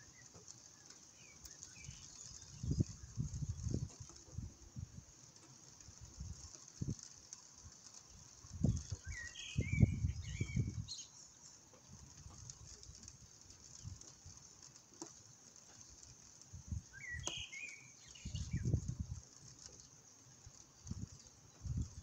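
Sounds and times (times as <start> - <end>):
small bird chirping: 0.0 - 4.4, 5.4 - 22.0
rain hissing: 0.0 - 22.0.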